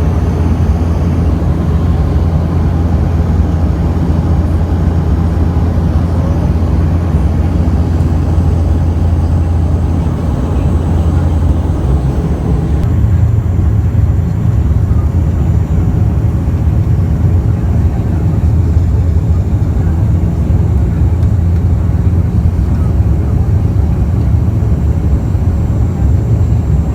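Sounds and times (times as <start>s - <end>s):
turboprop engines droning: 0.0s - 26.9s.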